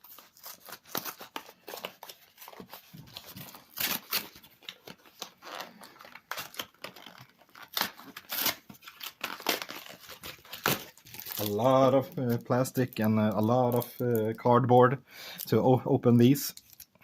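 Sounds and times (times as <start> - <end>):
plastic wrap being torn open: 0.0 - 14.7, 16.5 - 17.0.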